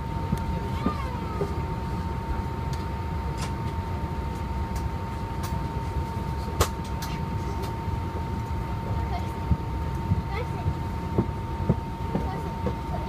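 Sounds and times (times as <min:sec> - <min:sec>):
aircraft cabin rumble: 0:00.0 - 0:13.0
constant high hum: 0:00.0 - 0:13.0.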